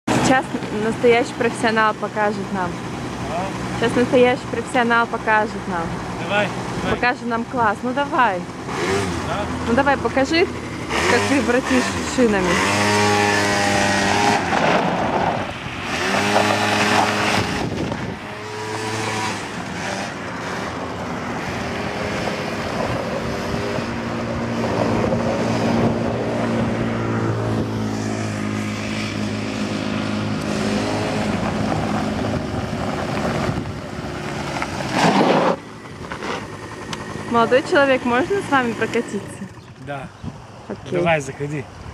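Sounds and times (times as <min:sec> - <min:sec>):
quad bike engine revving: 0:00.1 - 0:41.9.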